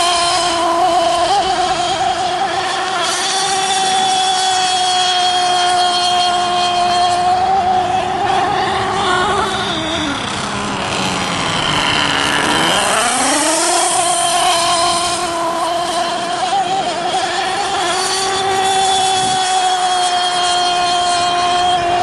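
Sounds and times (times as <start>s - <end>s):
model boat engine wailing: 0.0s - 22.0s.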